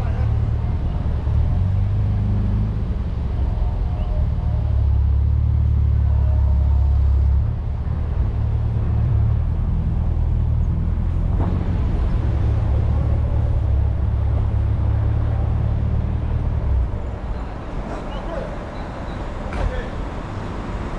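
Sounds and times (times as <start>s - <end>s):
car engine rumble: 0.0s - 20.9s.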